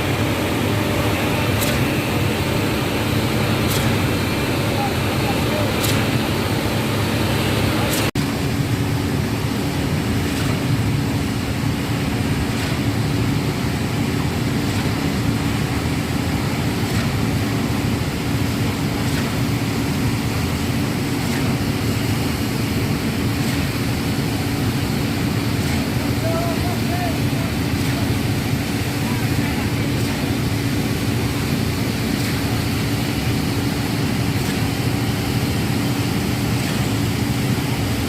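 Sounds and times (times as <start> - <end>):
concrete pump diesel engine: 0.0 - 38.0.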